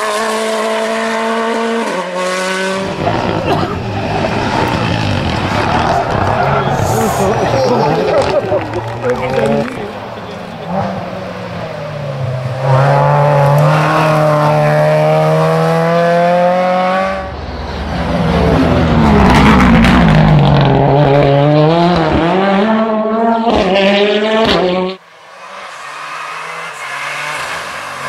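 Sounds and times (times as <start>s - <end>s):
rally cars passing at full throttle: 0.0s - 28.0s.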